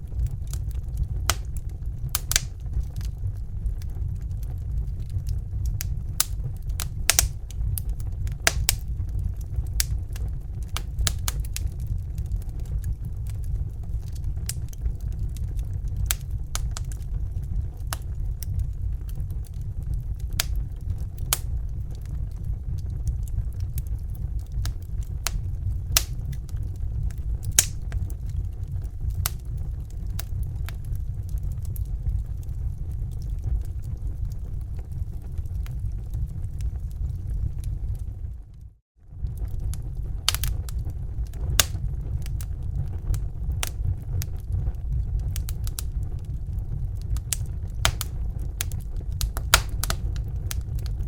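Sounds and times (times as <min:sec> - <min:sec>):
fire crackling and popping: 0:00.0 - 0:51.0
low rumble: 0:00.0 - 0:51.0.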